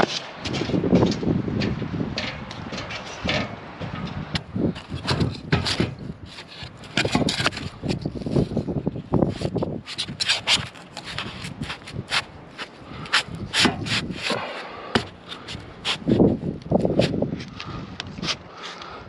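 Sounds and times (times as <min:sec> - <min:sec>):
scraping and rubbing on metal roof: 0:00.0 - 0:17.3.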